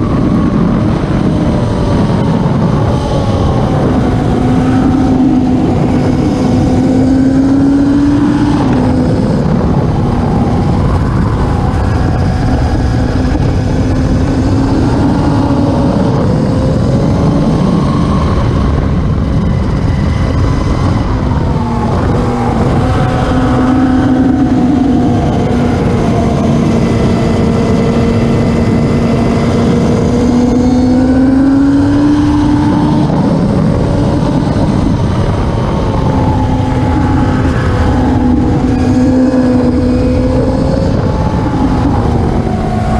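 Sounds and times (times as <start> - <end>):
racing motorcycle engines: 0.0 - 42.9.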